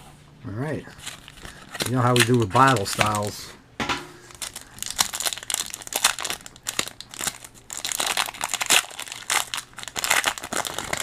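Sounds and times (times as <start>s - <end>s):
foil wrapper crinkling and tearing: 0.9s - 3.4s, 4.2s - 11.0s.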